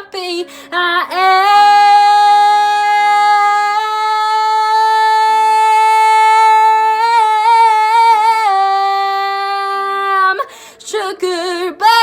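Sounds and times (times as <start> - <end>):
woman singing a long note: 0.0 - 12.0.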